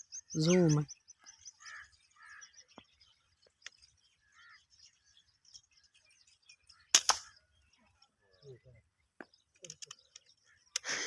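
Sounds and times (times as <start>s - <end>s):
faint distant birds chirping: 0.0s - 11.0s.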